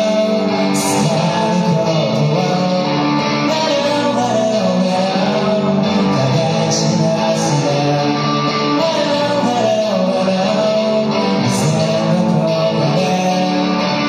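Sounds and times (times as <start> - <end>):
drums: 0.0 - 14.0
electric guitars: 0.0 - 14.0
person singing: 0.0 - 14.0.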